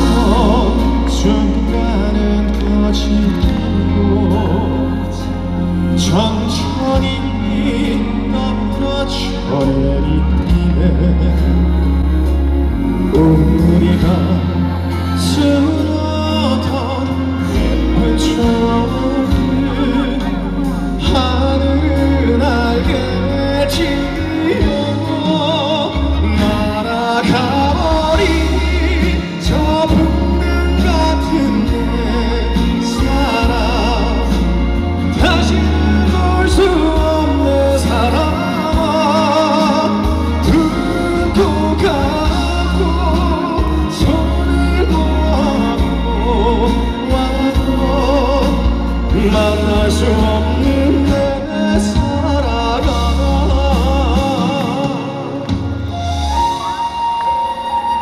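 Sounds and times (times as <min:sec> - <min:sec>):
man singing a slow ballad: 0:00.0 - 0:56.9
full band accompaniment: 0:00.0 - 0:58.0
heavy bass line: 0:00.0 - 0:58.0.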